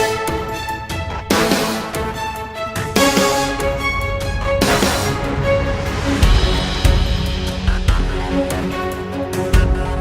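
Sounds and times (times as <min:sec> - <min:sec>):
theme music with steady beat: 0:00.0 - 0:10.0.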